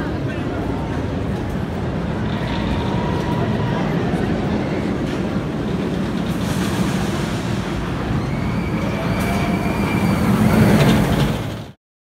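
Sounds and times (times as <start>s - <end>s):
roller coaster train rumbling: 0.0s - 11.8s.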